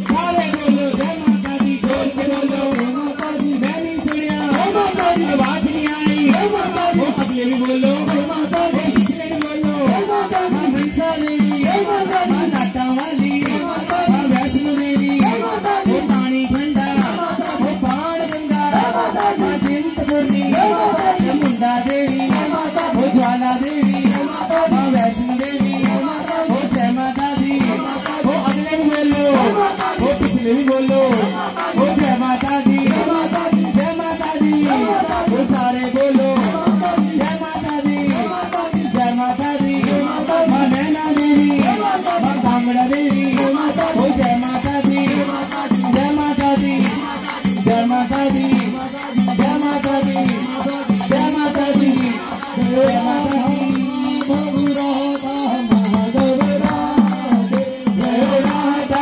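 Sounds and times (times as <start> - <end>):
hand drum: 0.0 - 59.0
people singing into microphones: 0.0 - 59.0
small hand cymbals: 0.0 - 59.0.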